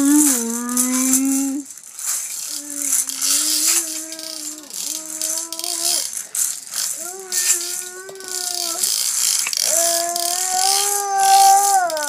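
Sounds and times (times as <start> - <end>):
plastic toy car rattling: 0.0 - 12.0.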